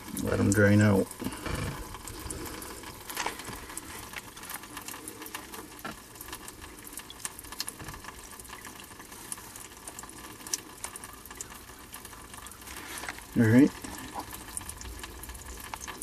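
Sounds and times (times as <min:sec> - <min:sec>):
water dripping: 0:00.0 - 0:16.0
water pouring and splashing: 0:00.0 - 0:16.0.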